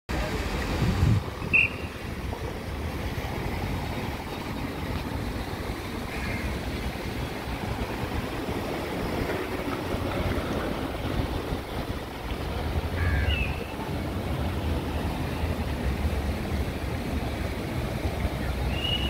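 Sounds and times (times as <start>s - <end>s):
city traffic hum: 0.1s - 19.0s
wind rumbling on microphone: 0.2s - 6.0s, 6.6s - 19.0s.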